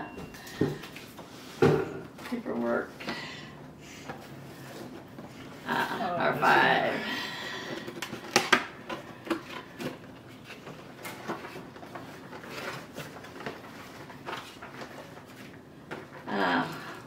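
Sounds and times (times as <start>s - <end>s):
cardboard and paper rustling: 0.2s - 17.0s.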